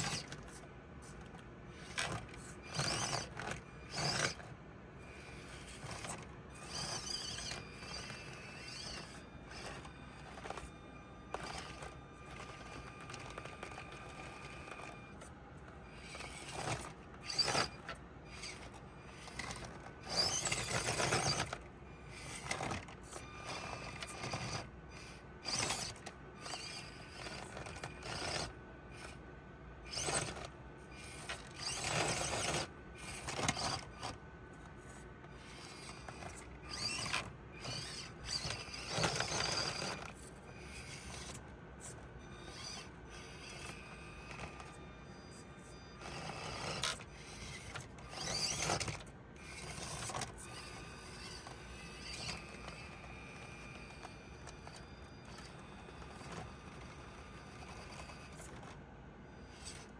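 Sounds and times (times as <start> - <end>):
rc crawler motor whirring: 0.0 - 59.9.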